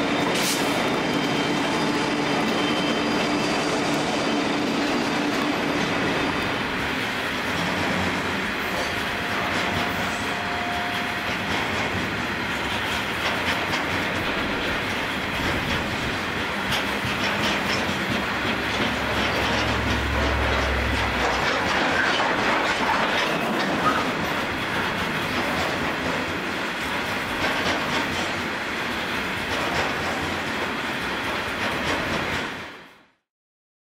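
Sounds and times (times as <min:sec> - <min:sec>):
diesel locomotive engine drone: 0:00.0 - 0:32.9
train wheels rumbling and clacking: 0:00.0 - 0:33.2.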